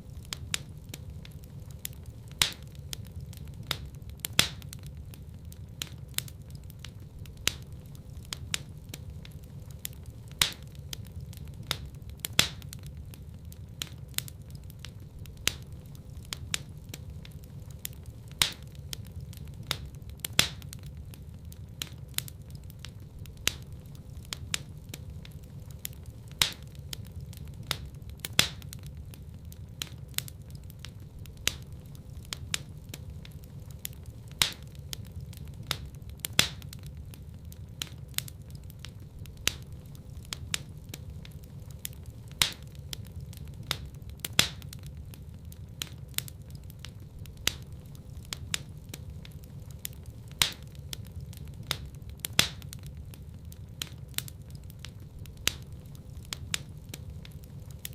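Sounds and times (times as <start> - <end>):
loud cracks of fire: 0.0 - 57.9
low rumble of fire: 0.0 - 57.9
wood fire crackling: 0.0 - 57.9.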